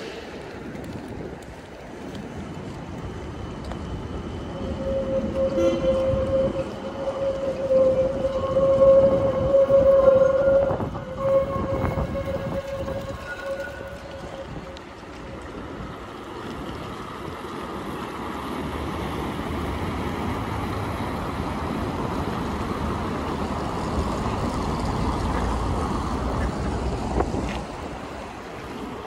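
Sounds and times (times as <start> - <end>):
city street rushing noise: 0.0 - 29.0.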